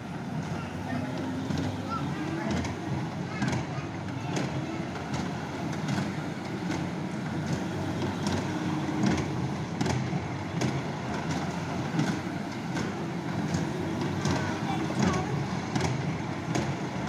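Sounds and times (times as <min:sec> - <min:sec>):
ride train rumbling: 0:00.0 - 0:17.0
wheels clicking on rails: 0:00.0 - 0:17.0.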